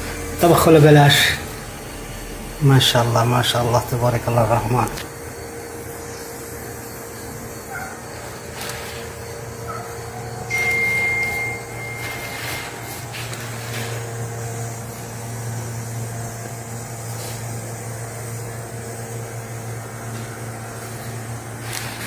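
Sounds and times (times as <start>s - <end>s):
thin high steady tone: 0.0s - 21.9s
low mechanical hum: 0.0s - 22.0s.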